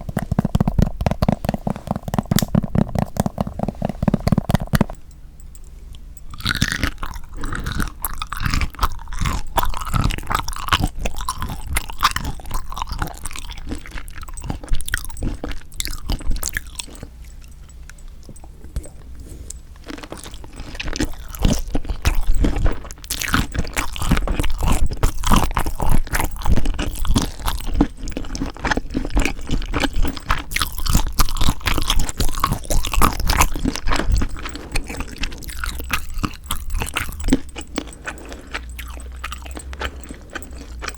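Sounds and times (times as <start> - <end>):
person chewing crunchy food: 0.0 - 5.0, 5.9 - 40.9.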